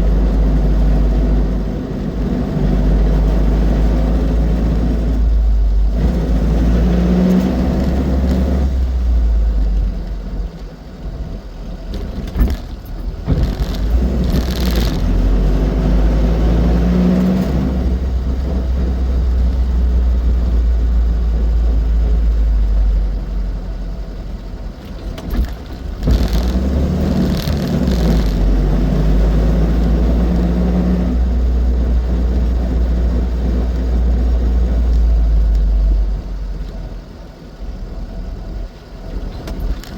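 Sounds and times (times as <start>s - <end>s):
road noise: 0.0s - 39.9s
small car engine running: 0.0s - 39.9s.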